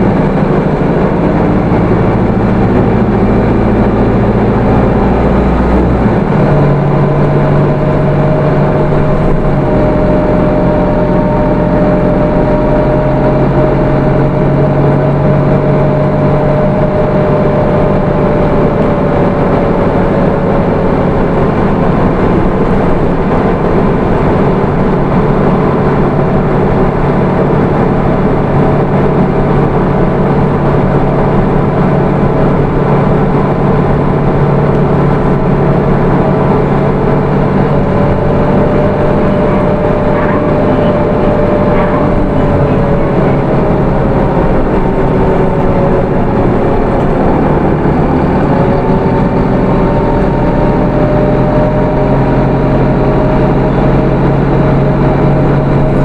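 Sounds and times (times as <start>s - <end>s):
diesel bus engine running: 0.0s - 56.0s
faint whine: 0.0s - 56.0s.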